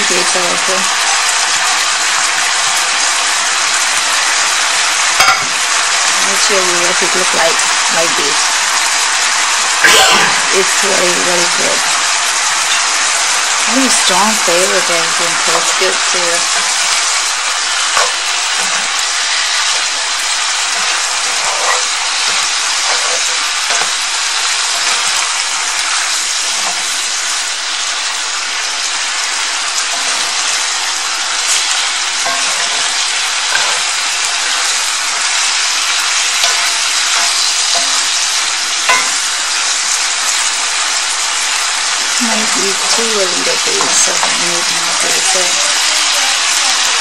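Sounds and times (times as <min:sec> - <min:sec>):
food sizzling in a skillet: 0:00.0 - 0:47.0.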